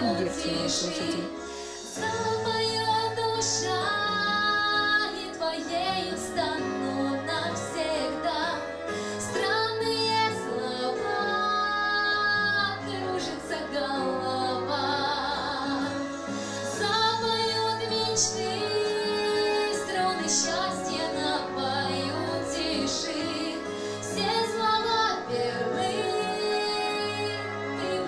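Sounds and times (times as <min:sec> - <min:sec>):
woman singing into a microphone: 0:00.0 - 0:28.0.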